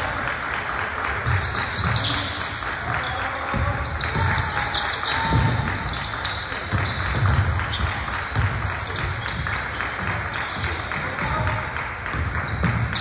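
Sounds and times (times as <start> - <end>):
sneakers squeaking: 0.0 - 13.0
basketball bouncing on gym floor: 1.0 - 13.0.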